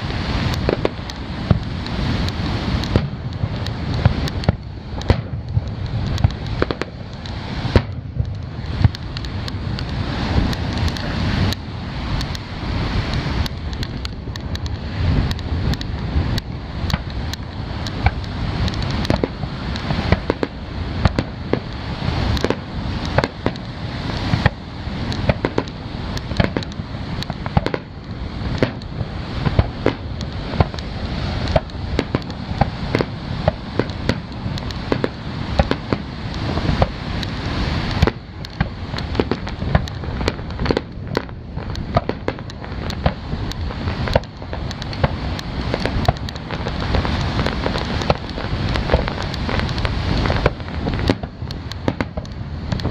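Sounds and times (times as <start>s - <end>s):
continuous low rumble: 0.0s - 52.9s
fireworks bangs and crackles: 0.0s - 52.9s.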